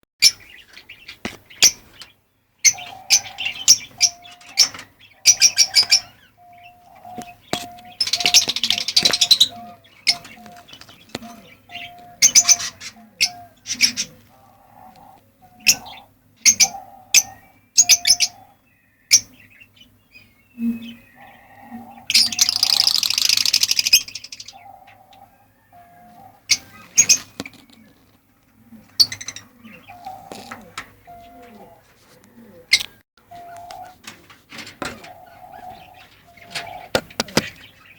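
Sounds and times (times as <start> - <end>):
lovebirds chirping: 0.2 - 34.2, 34.8 - 37.9.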